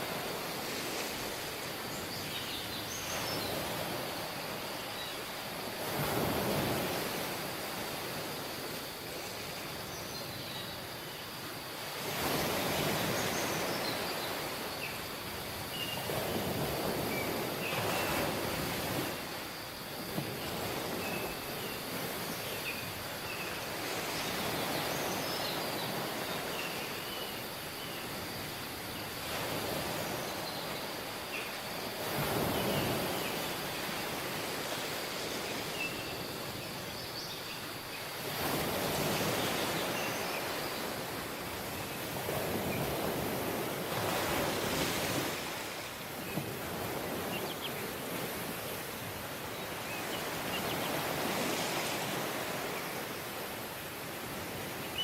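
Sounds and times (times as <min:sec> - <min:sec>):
sea waves breaking on beach: 0:00.0 - 0:09.8, 0:10.8 - 0:55.0.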